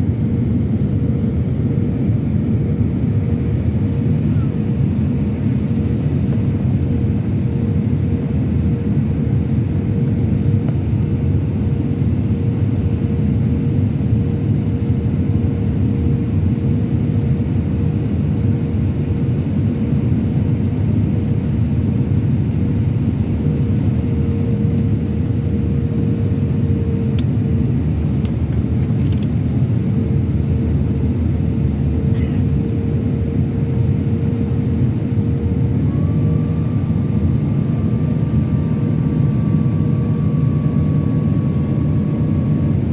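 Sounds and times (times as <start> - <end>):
airplane cabin engine rumble: 0.0 - 42.9
constant hum: 0.0 - 42.9.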